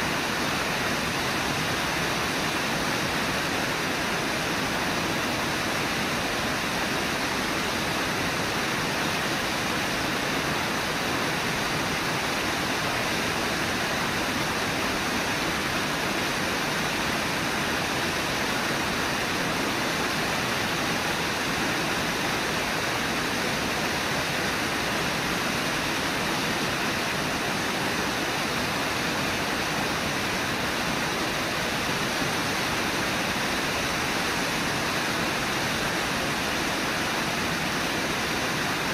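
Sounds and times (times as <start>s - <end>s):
rushing white water: 0.0s - 38.9s.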